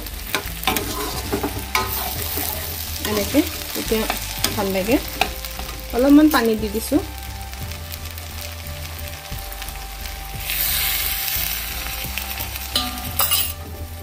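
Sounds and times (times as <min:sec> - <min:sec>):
curry sizzling in pan: 0:00.0 - 0:14.0
water hissing in hot pan: 0:00.0 - 0:14.0.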